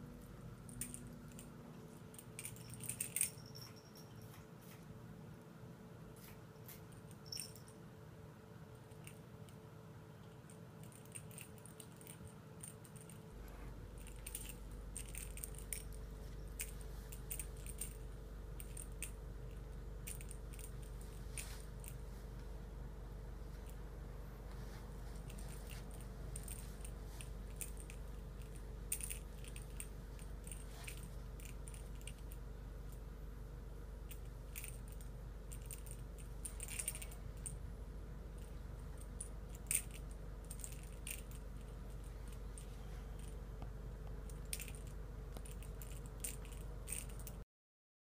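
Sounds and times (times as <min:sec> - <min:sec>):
low electrical hum: 0:00.0 - 0:47.5.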